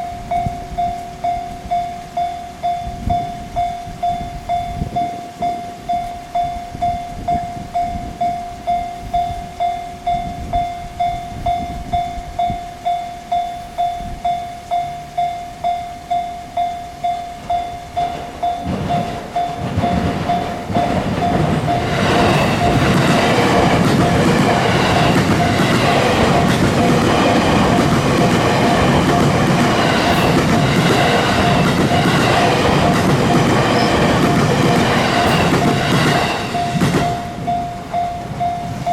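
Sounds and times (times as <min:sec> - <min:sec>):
level-crossing alarm ringing: 0:00.0 - 0:38.9
train passing: 0:00.0 - 0:38.9.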